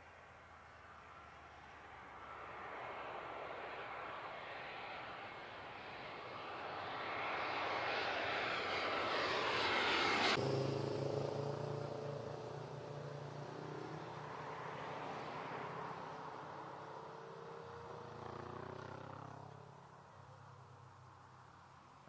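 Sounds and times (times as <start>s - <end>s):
passenger aircraft engine rushing: 1.0s - 20.1s.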